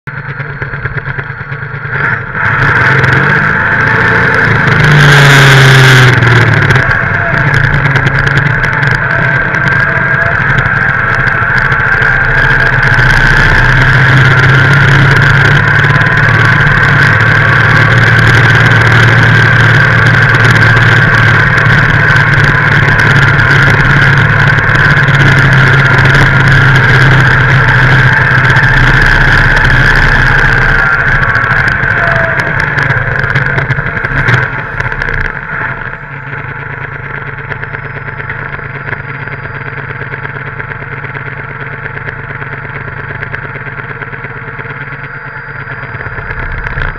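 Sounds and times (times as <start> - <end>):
tractor diesel engine under load: 0.1 - 46.9.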